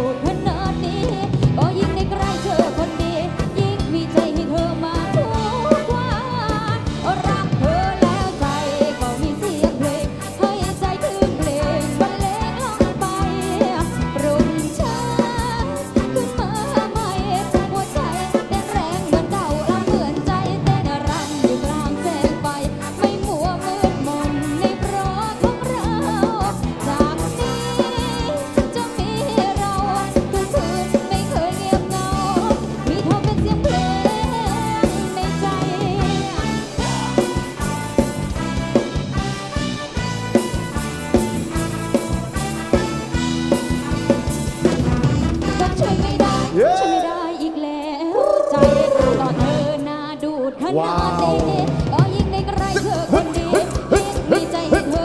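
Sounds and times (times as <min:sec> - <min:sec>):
person singing: 0:00.0 - 0:37.6, 0:45.5 - 0:55.0
drum kit steady beat: 0:00.0 - 0:47.3, 0:48.6 - 0:49.8, 0:50.8 - 0:55.0.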